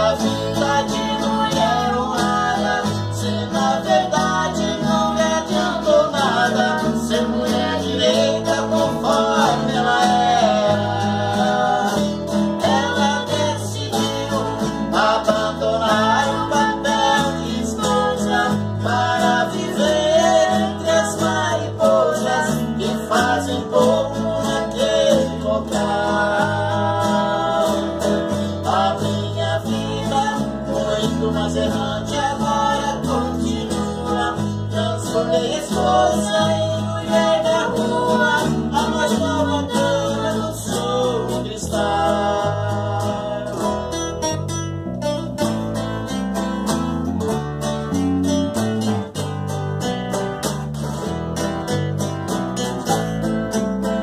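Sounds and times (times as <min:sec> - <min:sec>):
acoustic guitars plucked melody: 0:00.0 - 0:54.0
electric bass line: 0:00.0 - 0:54.0.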